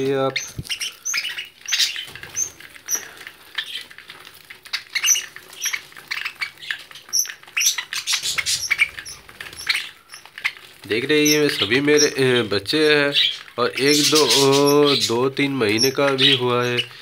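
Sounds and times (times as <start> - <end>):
beaks pecking at seed: 0.0 - 17.0
budgerigars chirping: 0.0 - 17.0.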